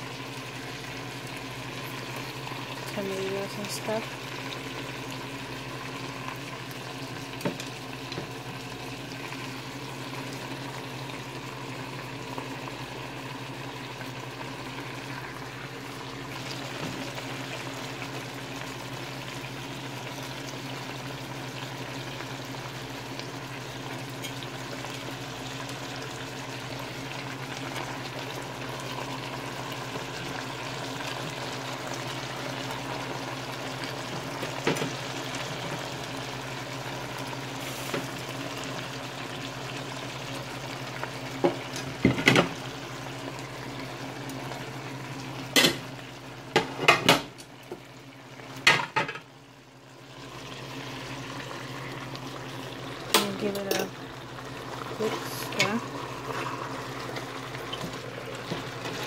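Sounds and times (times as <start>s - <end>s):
food sizzling in a pot: 0.0s - 59.0s.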